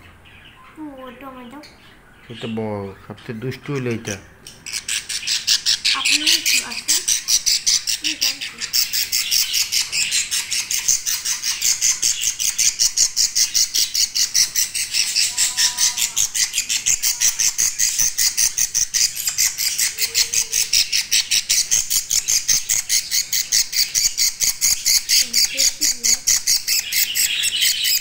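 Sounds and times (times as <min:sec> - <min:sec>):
budgerigar chicks squawking: 0:00.0 - 0:28.0.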